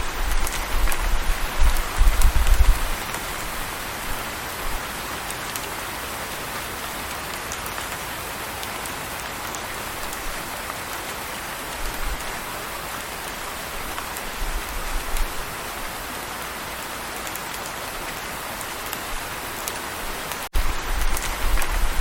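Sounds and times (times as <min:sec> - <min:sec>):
steady rain: 0:00.0 - 0:22.0
rain drop ticks: 0:00.1 - 0:15.4, 0:16.4 - 0:22.0.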